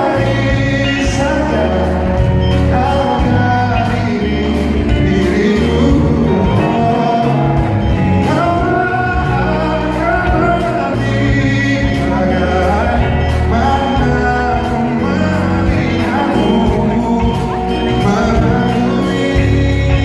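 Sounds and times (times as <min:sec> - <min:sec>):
live pop band playing: 0:00.0 - 0:20.0
man singing long notes: 0:00.0 - 0:20.0.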